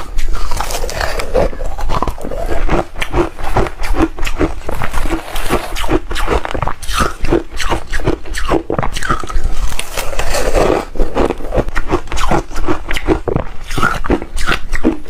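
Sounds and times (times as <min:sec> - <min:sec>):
ice being chewed and crunched: 0:00.0 - 0:15.0.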